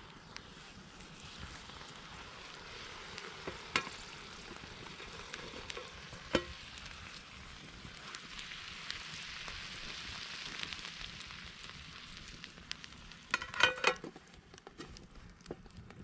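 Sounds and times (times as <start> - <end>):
fish sizzling over fire: 0.0 - 16.0.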